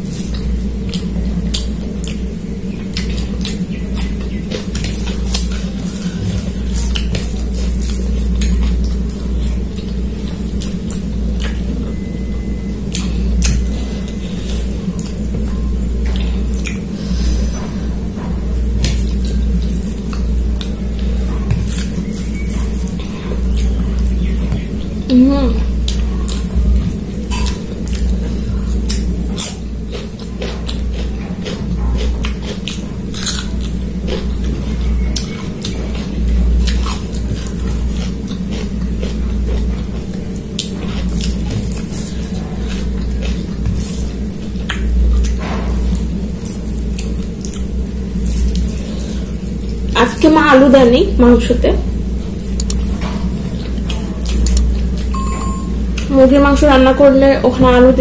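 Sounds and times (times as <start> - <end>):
mouth chewing: 0.0 - 50.3, 51.8 - 56.6
steady low hum: 0.0 - 58.0
wet squishes of fingers mixing food: 0.0 - 58.0.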